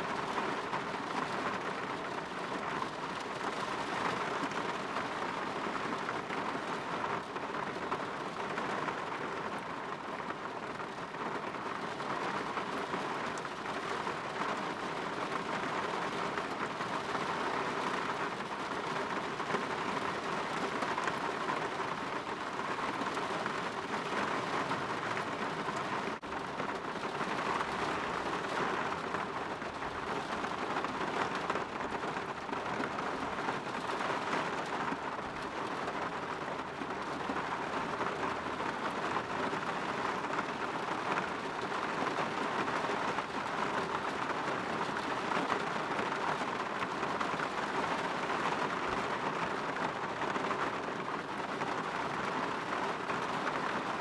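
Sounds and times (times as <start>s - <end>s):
rain falling on a window: 0.0s - 54.0s.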